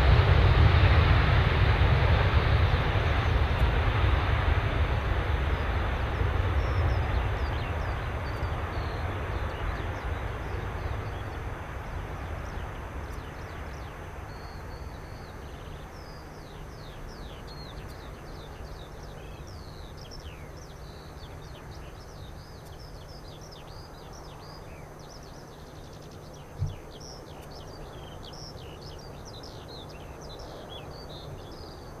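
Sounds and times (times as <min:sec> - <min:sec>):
low distant rumble: 0:00.0 - 0:27.2
jet engine rumble: 0:00.0 - 0:32.0
birds chirping: 0:05.4 - 0:32.0.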